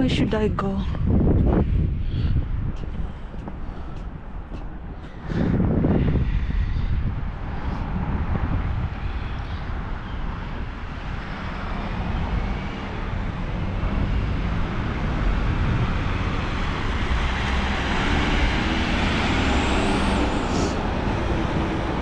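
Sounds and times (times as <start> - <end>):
wind buffeting microphone: 0.0 - 22.0
motor vehicle passing: 1.0 - 22.0.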